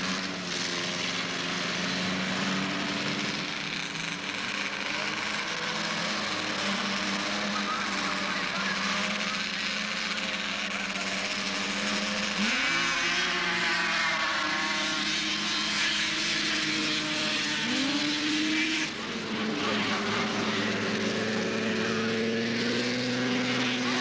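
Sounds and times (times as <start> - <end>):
snowmobile engines at full throttle: 0.0 - 24.0.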